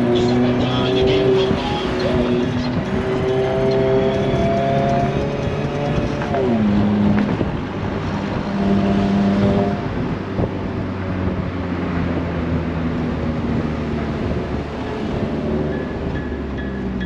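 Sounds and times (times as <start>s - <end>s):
car engine running: 0.0s - 17.0s
wind noise: 0.0s - 17.0s.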